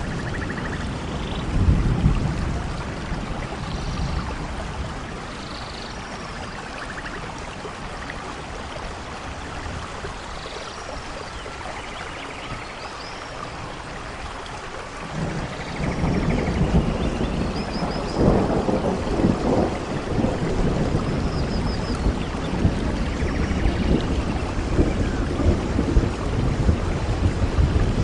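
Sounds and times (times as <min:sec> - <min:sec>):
low rumble of thunder: 0:00.0 - 0:10.1, 0:15.0 - 0:28.0
steady rain hiss: 0:00.0 - 0:28.0.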